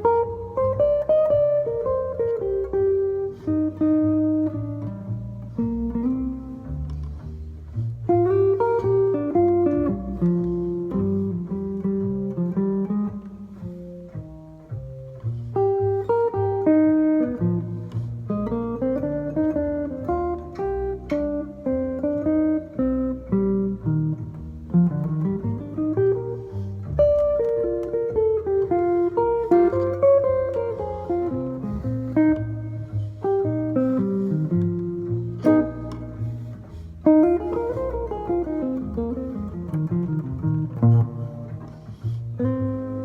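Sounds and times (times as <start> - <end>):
solo guitar chord-melody: 0.0 - 43.0.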